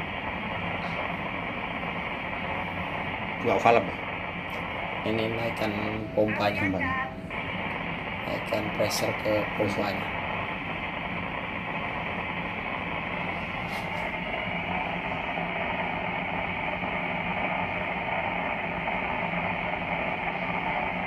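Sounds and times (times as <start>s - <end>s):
hydraulic pump drone: 0.0s - 21.0s.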